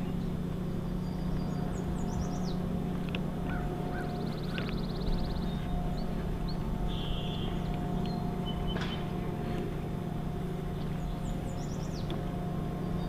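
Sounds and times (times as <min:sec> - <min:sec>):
small birds chirping: 0:00.0 - 0:02.7, 0:03.4 - 0:09.2, 0:10.7 - 0:13.0
low outdoor rumble: 0:00.0 - 0:13.0.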